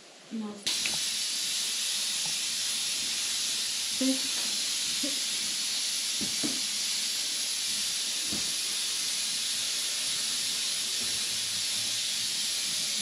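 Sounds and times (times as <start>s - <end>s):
high-pitched hiss: 0.6s - 13.0s.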